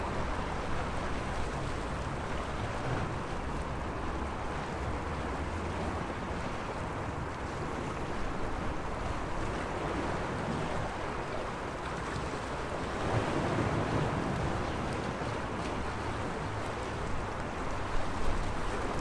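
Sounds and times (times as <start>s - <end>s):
small waves washing on shore: 0.0s - 19.0s
wind rumble on microphone: 0.0s - 19.0s.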